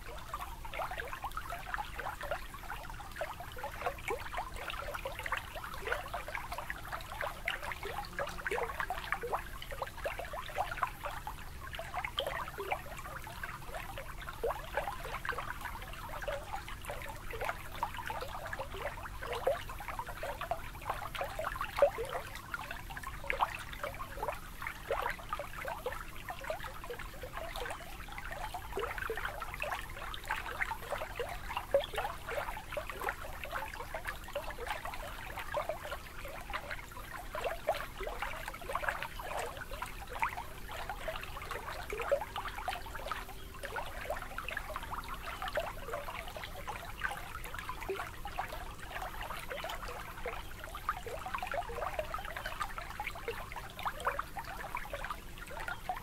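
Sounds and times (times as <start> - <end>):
water lapping at shoreline: 0.0 - 56.0.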